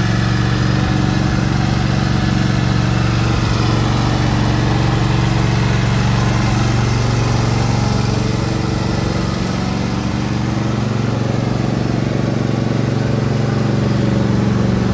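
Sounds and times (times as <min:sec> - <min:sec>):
mower engine running: 0:00.0 - 0:14.9.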